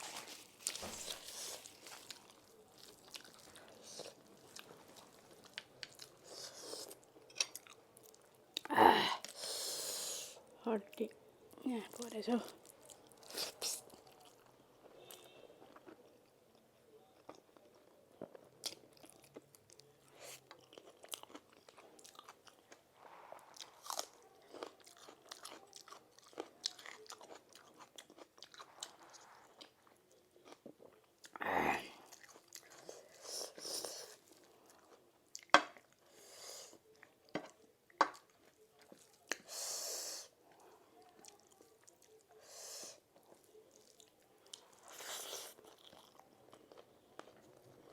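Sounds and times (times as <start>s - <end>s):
person chewing food: 0.0s - 9.5s, 11.9s - 39.6s, 40.5s - 47.9s.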